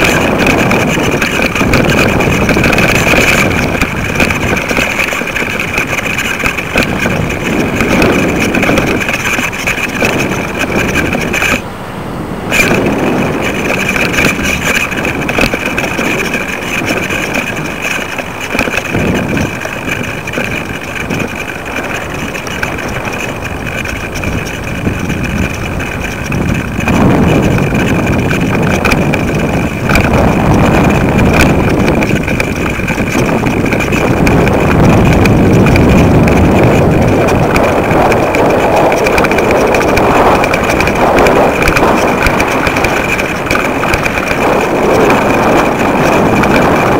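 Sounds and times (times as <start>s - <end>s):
steady high whine: 0.0s - 46.9s
wind buffeting microphone: 0.0s - 46.9s.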